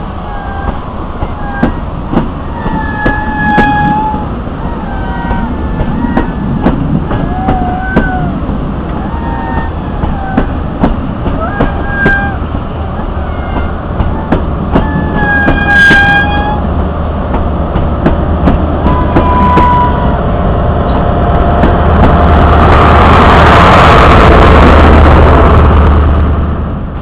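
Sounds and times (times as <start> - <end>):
train rumble: 0.0 - 27.0
train wheels clicking on rail joints: 0.3 - 20.2, 20.8 - 22.6.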